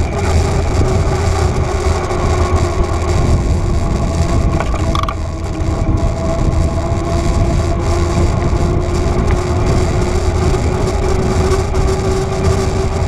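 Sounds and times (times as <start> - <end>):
bicycle tyre rumble: 0.0 - 13.0
wind rush: 0.0 - 13.0.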